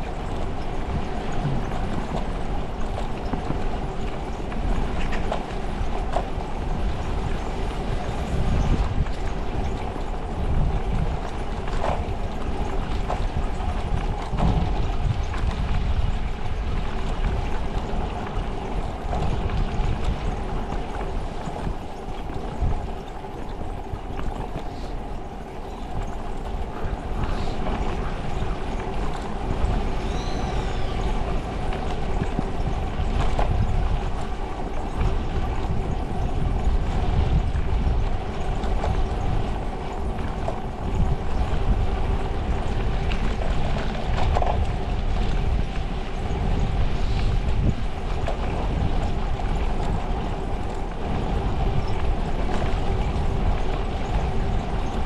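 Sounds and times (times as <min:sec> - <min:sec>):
constant hum: 0:00.0 - 0:55.0
wind buffeting microphone: 0:00.0 - 0:55.0.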